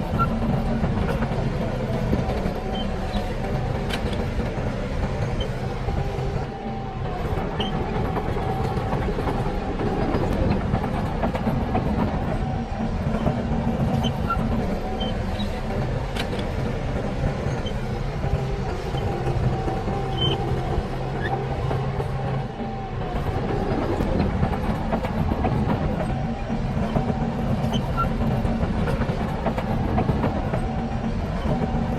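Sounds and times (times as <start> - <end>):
heavy machinery diesel engine: 0.0 - 31.9.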